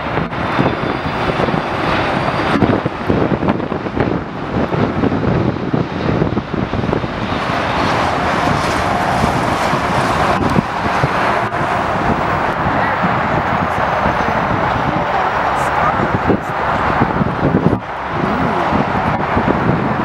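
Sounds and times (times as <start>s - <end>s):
aircraft engines running: 0.0s - 20.0s
wind buffeting microphone: 0.0s - 20.0s.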